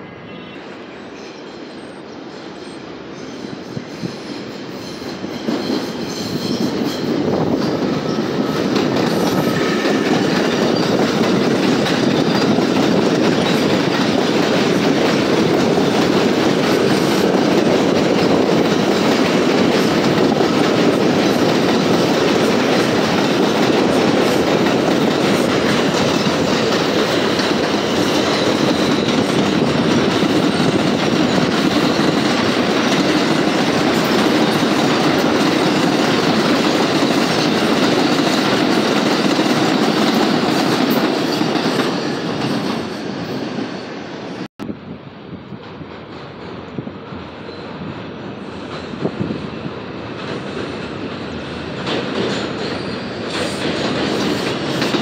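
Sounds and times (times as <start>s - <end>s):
subway train passing: 0.0s - 55.0s.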